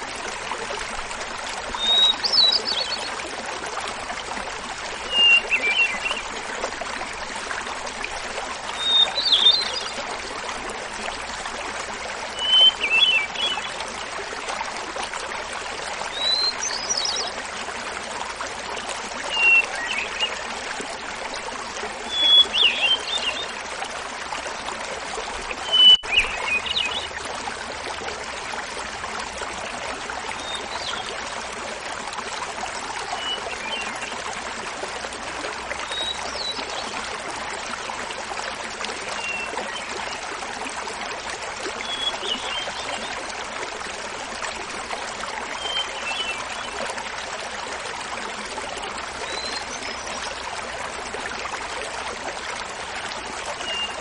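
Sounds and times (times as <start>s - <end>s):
small waterfall babbling: 0.0s - 54.0s.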